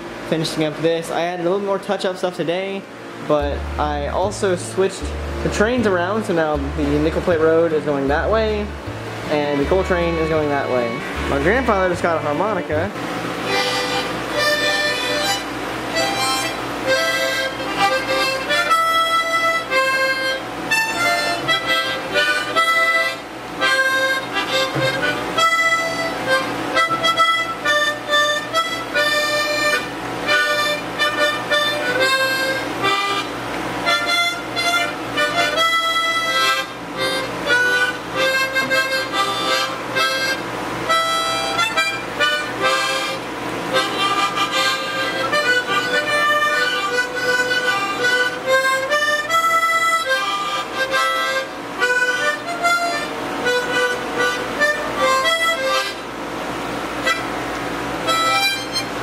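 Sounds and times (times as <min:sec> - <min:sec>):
harmonica playing lively tune: 0:03.3 - 0:59.0.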